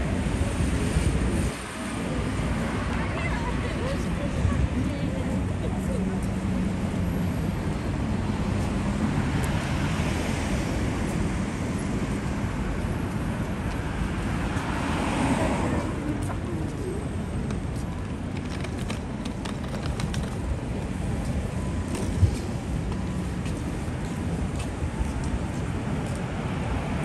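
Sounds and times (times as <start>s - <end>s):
road vehicles humming: 0.0s - 27.0s.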